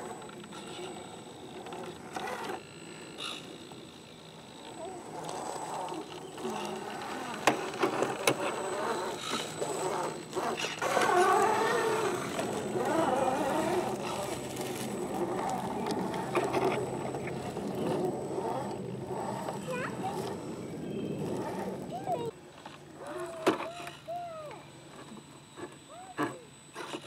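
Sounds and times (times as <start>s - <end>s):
electric motor and gearbox whining: 0.0s - 27.0s.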